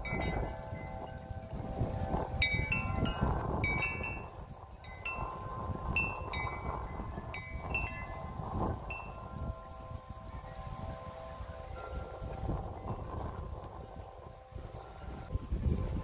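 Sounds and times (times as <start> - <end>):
wind chimes jingling: 0.0 - 16.0
wind rumble on microphone: 0.0 - 16.0.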